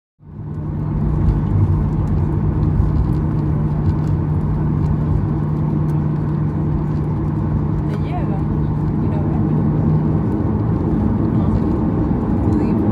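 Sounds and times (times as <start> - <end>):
jet engines humming: 0.2 - 12.9
low rumble: 0.2 - 12.9.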